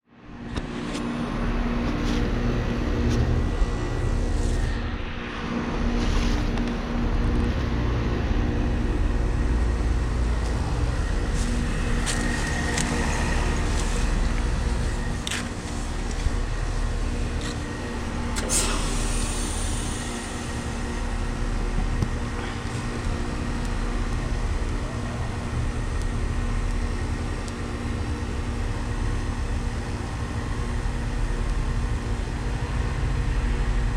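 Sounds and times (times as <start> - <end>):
heat pump compressor hum: 0.1 - 33.9.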